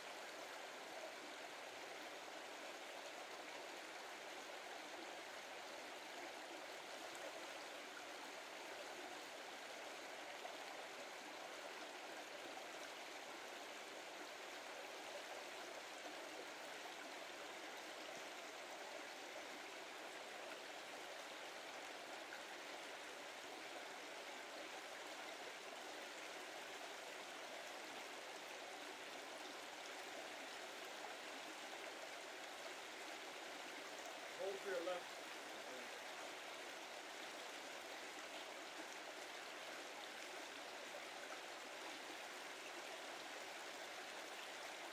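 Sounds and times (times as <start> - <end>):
brook flowing water: 0.0 - 44.9.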